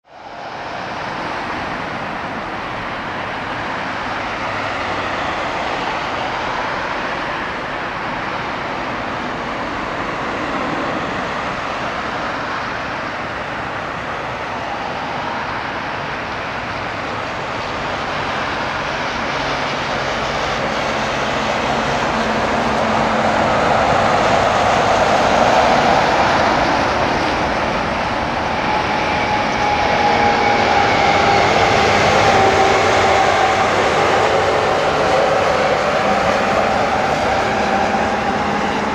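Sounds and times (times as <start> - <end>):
jet engines rushing: 0.1 - 38.9.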